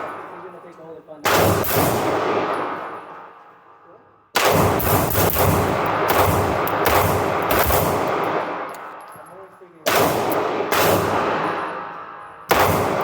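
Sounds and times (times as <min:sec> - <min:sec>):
pistol shots echoing: 0:00.0 - 0:03.7, 0:04.3 - 0:09.1, 0:09.8 - 0:13.0.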